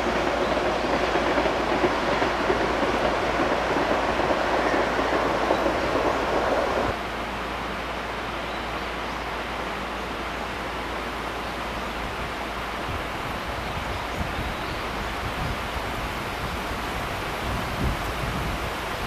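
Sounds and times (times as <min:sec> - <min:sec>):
outdoor background hiss: 0:00.0 - 0:19.0
train noise: 0:00.0 - 0:19.0.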